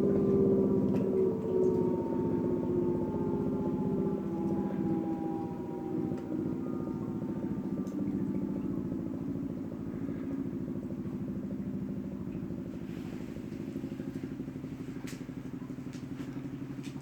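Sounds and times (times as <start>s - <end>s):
warning siren pulsing drone: 0.0s - 17.0s.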